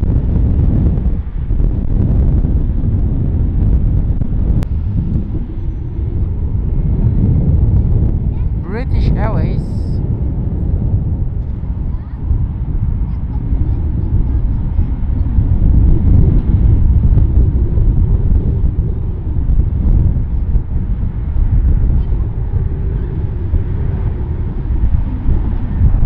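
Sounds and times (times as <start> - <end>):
jet engines rumbling overhead: 0.0 - 26.0.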